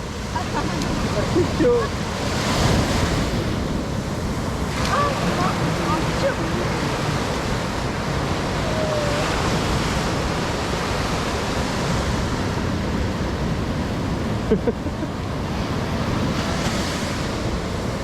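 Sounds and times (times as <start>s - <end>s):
sea surf washing onto beach: 0.0s - 18.0s
wind on microphone: 0.0s - 18.0s.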